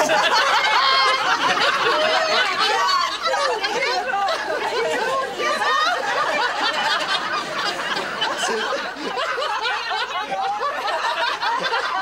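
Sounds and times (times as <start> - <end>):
group of people laughing: 0.0 - 12.0
people talking: 0.0 - 12.0.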